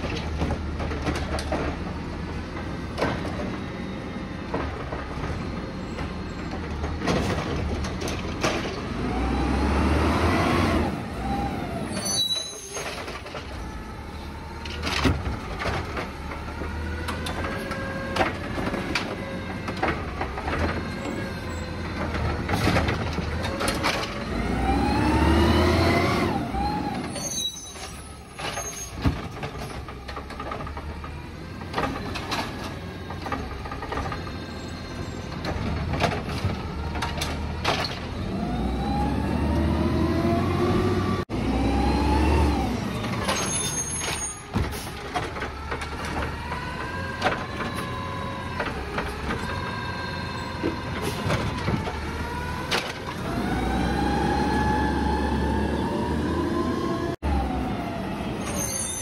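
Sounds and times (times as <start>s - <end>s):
garbage truck engine revving: 6.8s - 12.1s, 12.9s - 27.3s, 29.9s - 58.8s.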